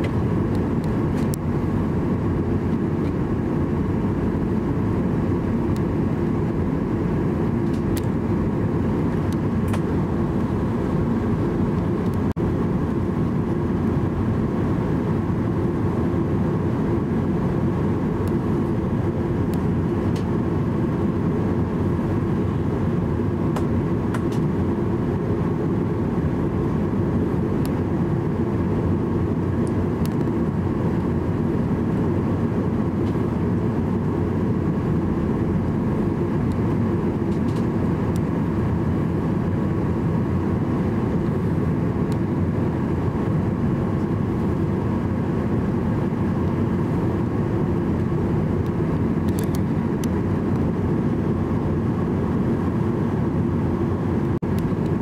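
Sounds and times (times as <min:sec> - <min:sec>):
jet engines rumbling at low power: 0:00.0 - 0:55.0.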